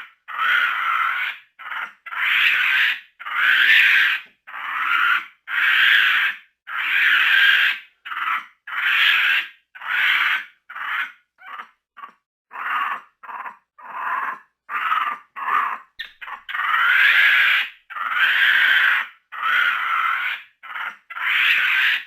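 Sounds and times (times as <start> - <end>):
monkey growling: 0.0 - 5.6, 6.7 - 22.0.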